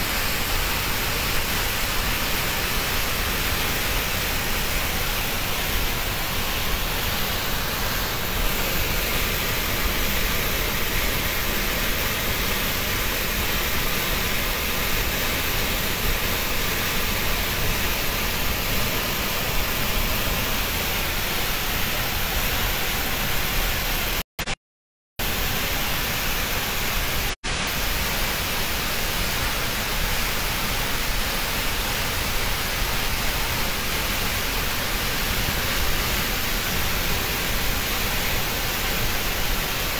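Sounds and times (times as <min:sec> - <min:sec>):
water rushing from sluice valve: 0:00.0 - 0:24.2, 0:25.2 - 0:39.9.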